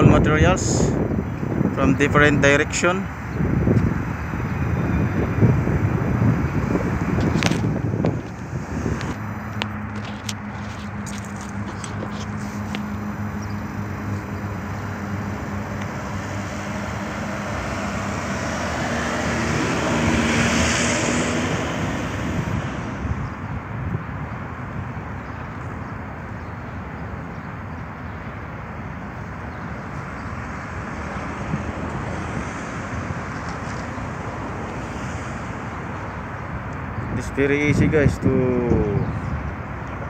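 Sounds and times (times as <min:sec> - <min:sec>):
low engine hum: 0:00.0 - 0:40.0
rushing background noise: 0:00.0 - 0:40.0
vehicle passing: 0:00.0 - 0:40.0.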